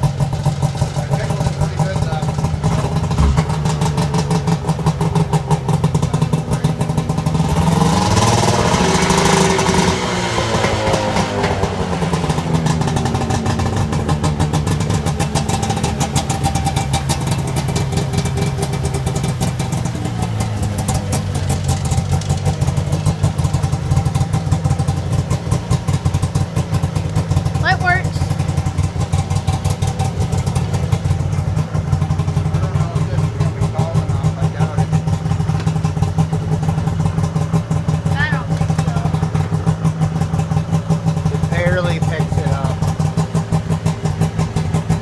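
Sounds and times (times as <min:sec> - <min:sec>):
snowmobile engine revving: 0:00.0 - 0:45.0.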